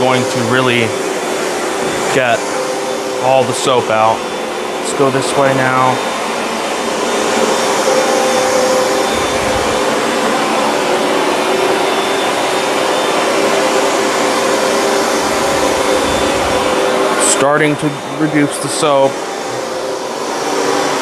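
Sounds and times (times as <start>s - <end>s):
carpet cleaner suction motor: 0.0s - 21.0s.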